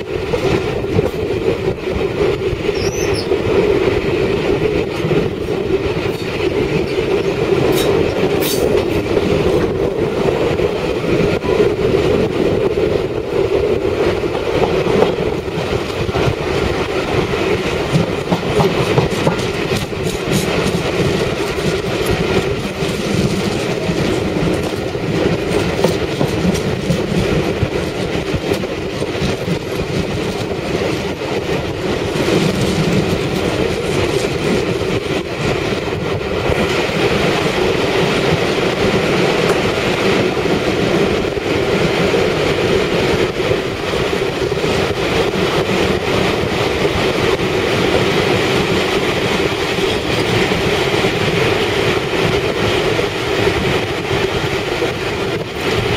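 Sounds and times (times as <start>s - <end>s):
train wheels on rails: 0.0s - 55.9s.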